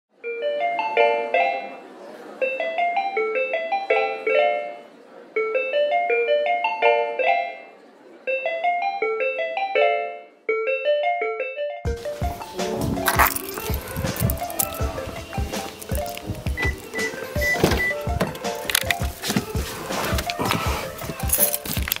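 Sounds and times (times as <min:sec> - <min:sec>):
quick keyboard or mallet melody: 0:00.2 - 0:22.0.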